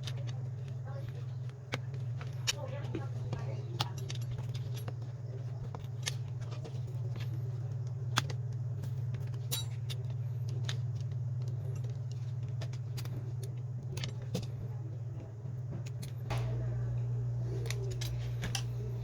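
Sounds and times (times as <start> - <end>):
steady low hum: 0.0 - 19.0
tools clicking and tapping: 0.0 - 19.0.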